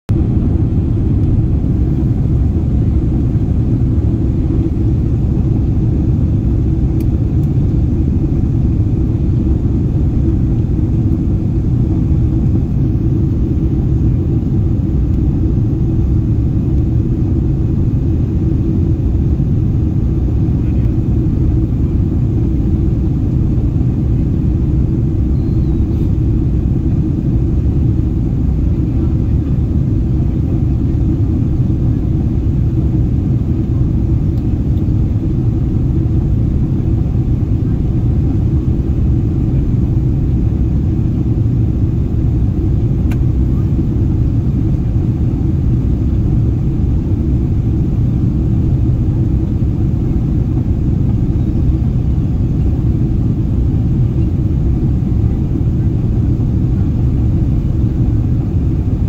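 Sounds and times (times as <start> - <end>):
airliner cabin engine and airflow noise: 0.1 - 59.0.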